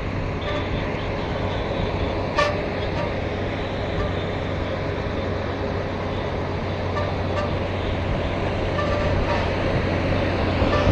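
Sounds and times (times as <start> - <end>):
bridge rumbling under traffic: 0.0 - 10.9.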